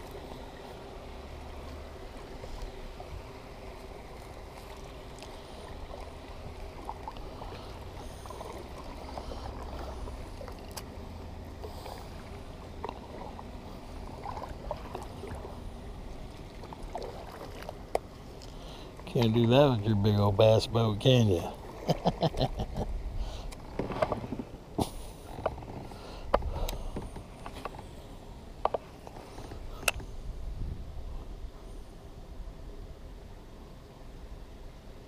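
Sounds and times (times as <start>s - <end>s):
water sloshing around kayak: 0.0s - 20.0s, 21.2s - 30.2s.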